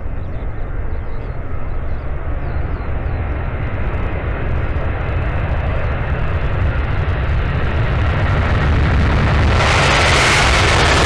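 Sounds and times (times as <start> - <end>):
jet engines roaring at takeoff: 0.0 - 11.0.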